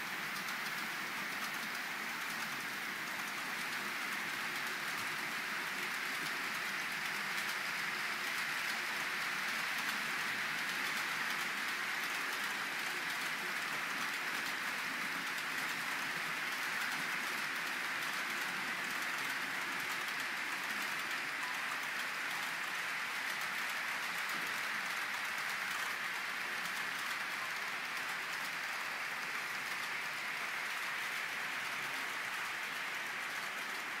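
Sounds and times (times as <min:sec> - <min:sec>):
model train wheels rolling on rails: 0:00.0 - 0:34.0.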